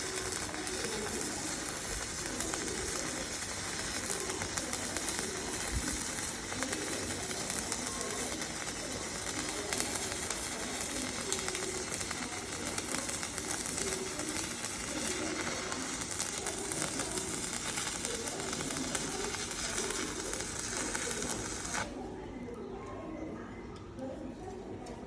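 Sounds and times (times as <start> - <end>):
welding arc crackling and hissing: 0.0 - 22.0.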